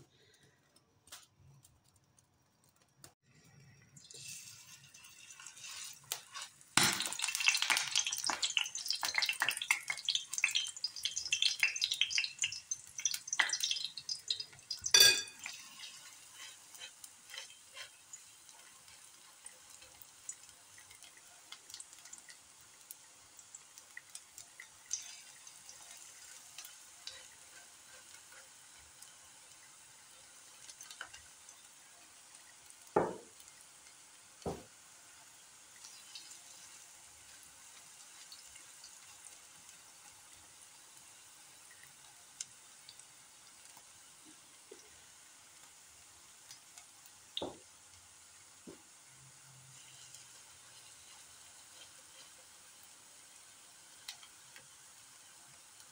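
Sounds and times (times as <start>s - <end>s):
batter sizzling in hot oil: 0.0s - 55.9s.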